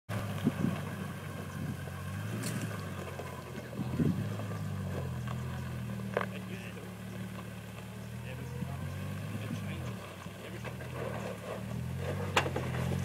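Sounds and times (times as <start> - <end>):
engine running at low revs: 0.1 - 13.0.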